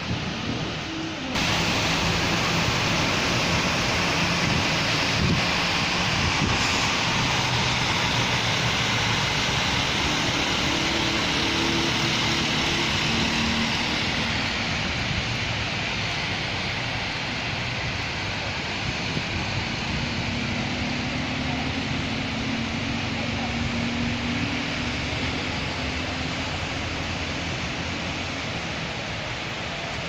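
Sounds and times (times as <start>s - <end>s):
passing traffic hum: 0.0s - 30.0s
rain hiss: 0.0s - 30.0s.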